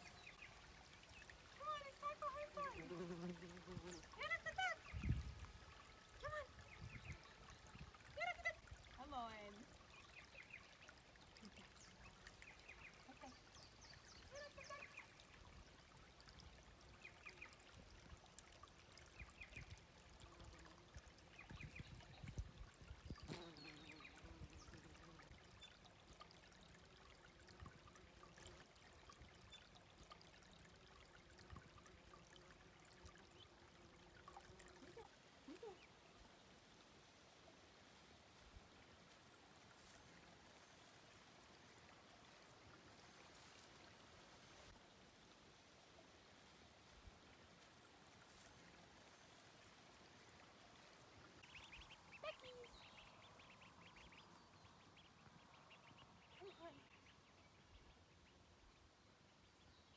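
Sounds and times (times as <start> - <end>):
creek trickling: 0.0 - 59.9.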